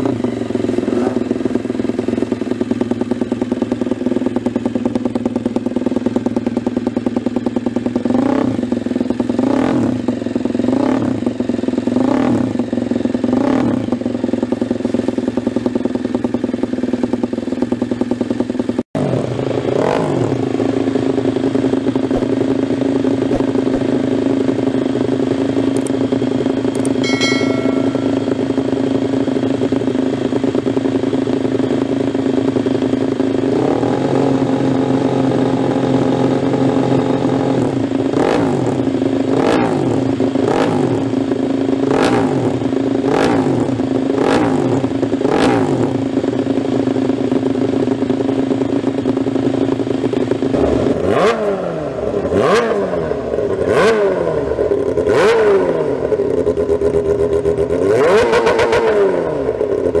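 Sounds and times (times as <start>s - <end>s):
motorcycle engines idling and revving: 0.0s - 60.0s.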